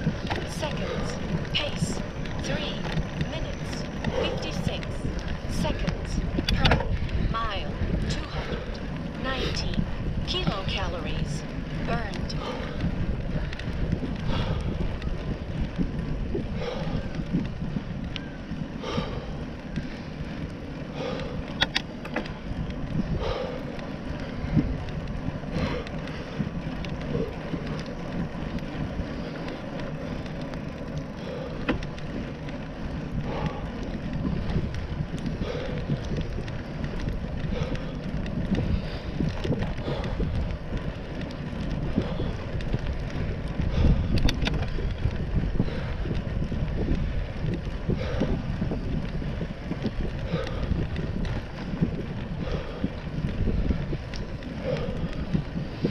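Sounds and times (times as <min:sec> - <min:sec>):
tyres rumbling on paved path: 0:00.0 - 0:55.9
wind buffeting microphone: 0:00.0 - 0:55.9.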